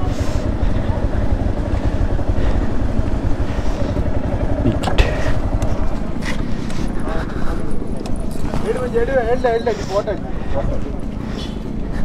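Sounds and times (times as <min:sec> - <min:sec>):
motorcycle engine low rumble: 0:00.0 - 0:12.0.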